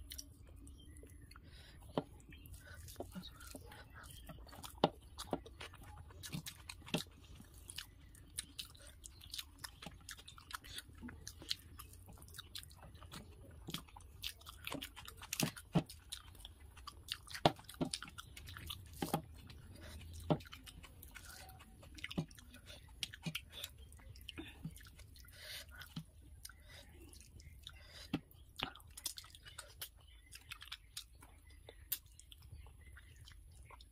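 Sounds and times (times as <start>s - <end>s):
person chewing with wet mouth smacks: 0.0s - 33.9s.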